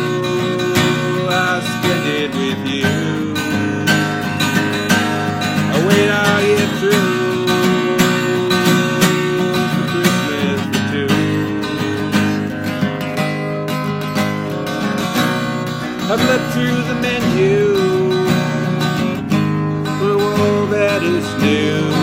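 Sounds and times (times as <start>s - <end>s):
person singing slow song: 0.0s - 15.1s, 15.9s - 22.0s
acoustic guitar strumming: 0.0s - 22.0s.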